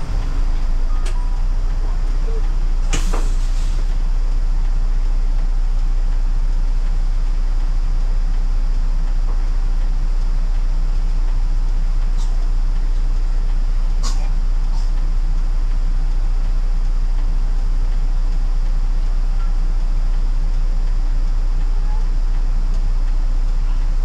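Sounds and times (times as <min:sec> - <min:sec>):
bus engine idling: 0:00.0 - 0:24.0.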